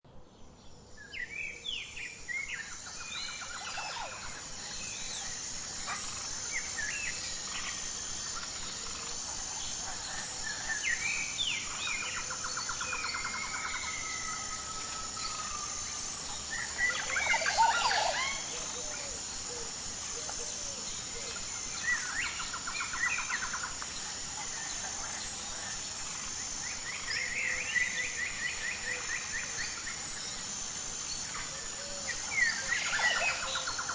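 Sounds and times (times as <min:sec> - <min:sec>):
steady high-pitched buzz: 0:00.1 - 0:33.9
birds calling and singing: 0:00.4 - 0:30.5.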